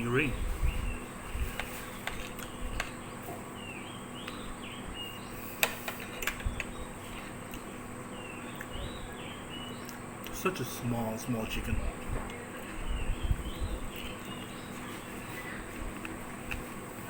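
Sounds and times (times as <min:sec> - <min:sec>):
bird chirping: 0:00.0 - 0:05.6, 0:06.4 - 0:16.0
steady background hum: 0:00.0 - 0:17.0.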